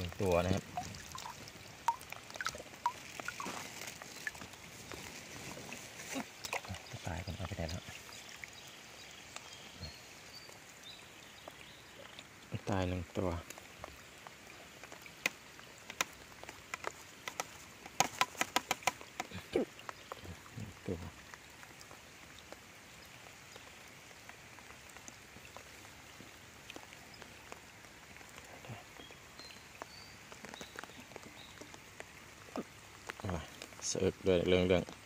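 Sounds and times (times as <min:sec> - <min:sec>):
rain falling: 0:00.0 - 0:35.0
raindrops ticking near microphone: 0:00.0 - 0:35.0.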